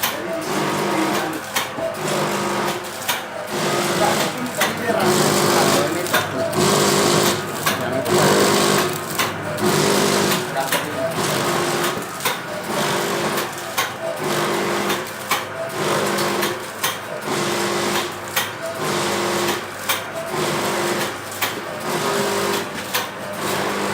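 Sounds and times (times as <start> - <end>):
machine motor hum: 0.0 - 23.9
sharp machine clack: 0.0 - 23.9.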